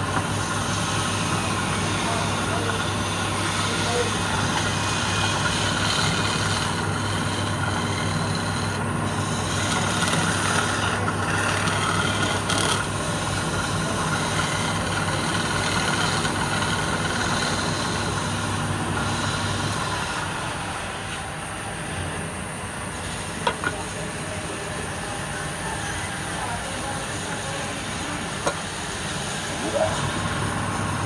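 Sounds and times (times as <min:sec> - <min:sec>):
chisel scraping on lathe: 0:00.0 - 0:21.2, 0:23.0 - 0:31.0
lathe motor hum: 0:00.0 - 0:31.0.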